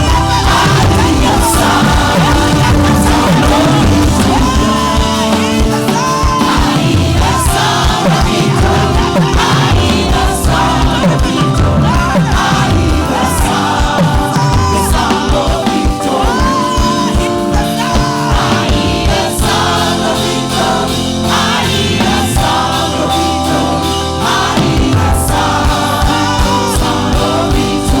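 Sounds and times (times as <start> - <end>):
band playing: 0.0 - 28.0
choir singing gospel: 0.0 - 28.0
steady drum beat: 0.0 - 28.0.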